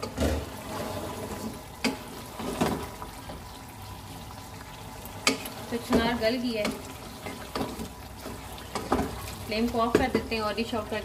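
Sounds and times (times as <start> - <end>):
curry bubbling: 0.0 - 11.0.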